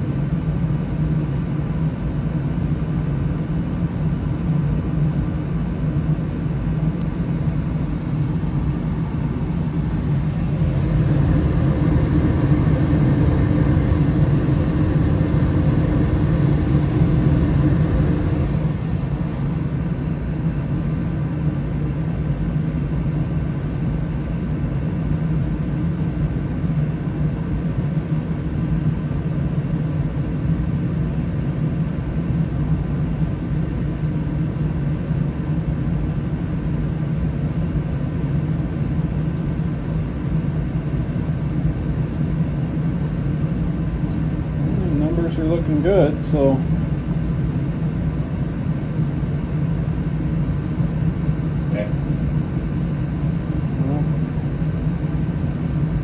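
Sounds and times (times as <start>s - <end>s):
gas furnace humming: 0.0s - 56.0s.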